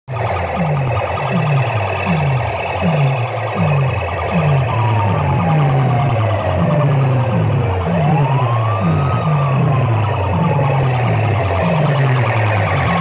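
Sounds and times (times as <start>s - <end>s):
deep swooping bass: 0.1s - 13.0s
electronic music over sound system: 0.1s - 13.0s
siren-like sliding tone: 0.1s - 13.0s.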